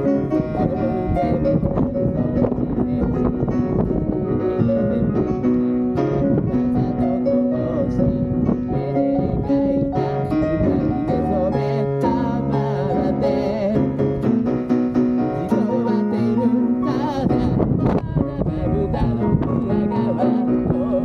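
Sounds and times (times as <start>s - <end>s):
person singing: 0.0s - 14.6s, 15.2s - 21.0s
wind rumbling on microphone: 0.0s - 21.0s.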